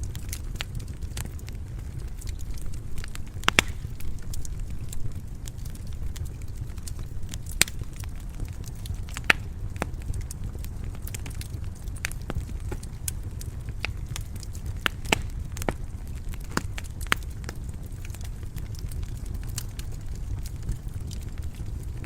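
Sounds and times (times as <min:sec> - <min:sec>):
sharp pops of burning wood: 0:00.0 - 0:22.0
wood fire crackling: 0:00.0 - 0:22.0.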